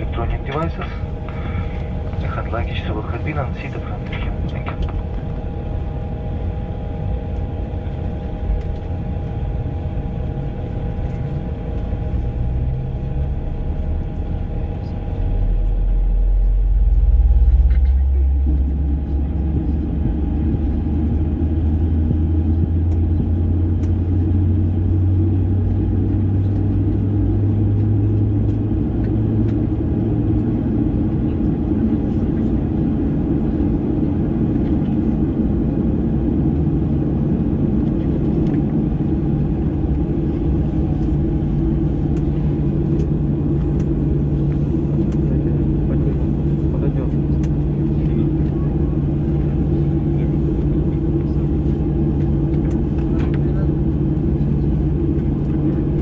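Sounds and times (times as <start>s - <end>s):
aircraft engines whining: 0.0s - 56.0s
deep rumble: 0.0s - 56.0s.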